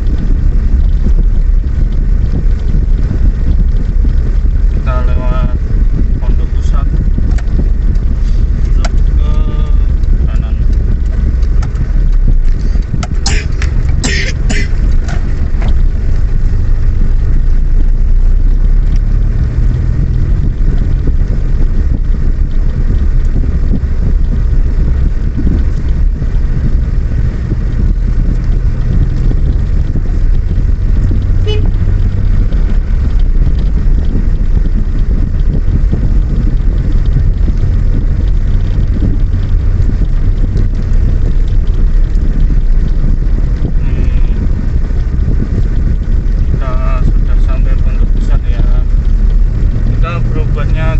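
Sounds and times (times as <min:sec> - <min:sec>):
vehicle travel rumble: 0:00.0 - 0:50.9.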